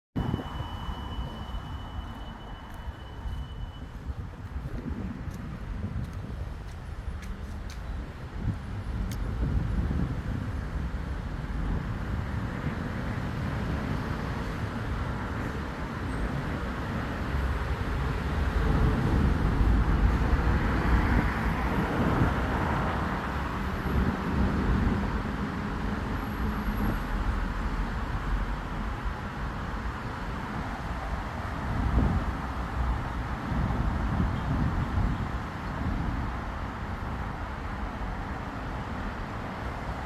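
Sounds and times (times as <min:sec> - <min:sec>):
road traffic passing: 0:00.2 - 0:40.0.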